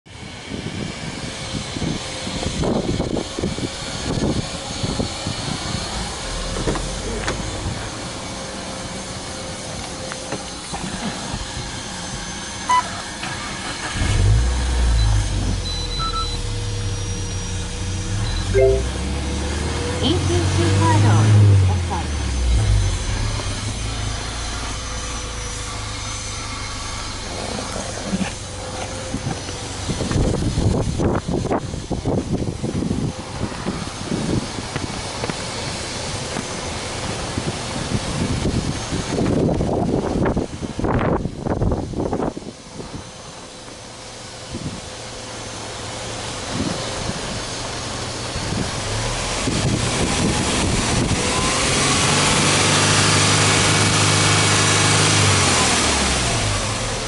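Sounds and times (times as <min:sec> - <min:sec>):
car engine idling: 0:00.1 - 0:57.0
outdoor background noise: 0:00.1 - 0:57.0.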